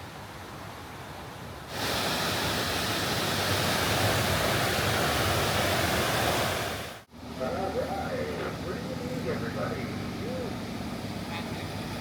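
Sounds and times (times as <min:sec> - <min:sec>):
steady hiss: 0:00.0 - 0:10.8
waterfall roaring: 0:01.7 - 0:12.0.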